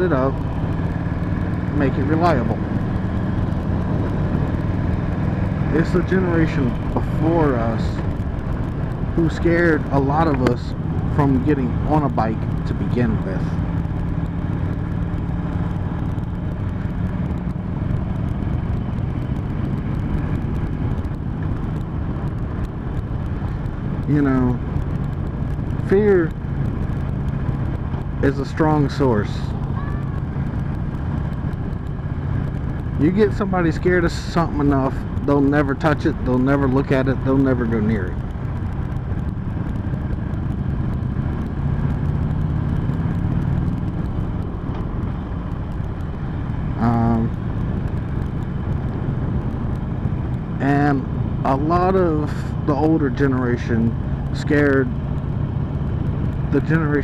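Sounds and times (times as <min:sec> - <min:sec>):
road noise: 0:00.0 - 0:57.0
vehicle engine cruising: 0:00.0 - 0:57.0.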